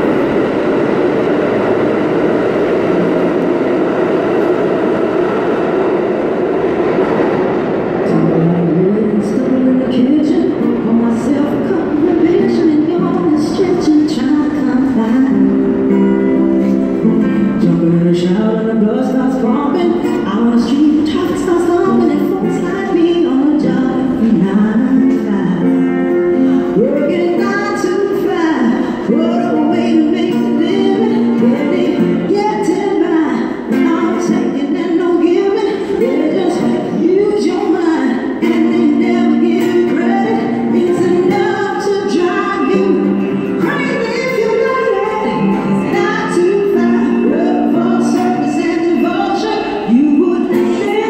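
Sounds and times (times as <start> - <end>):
subway train wheels on rails: 0.0 - 51.0
acoustic guitar: 7.5 - 51.0
woman singing: 8.1 - 51.0.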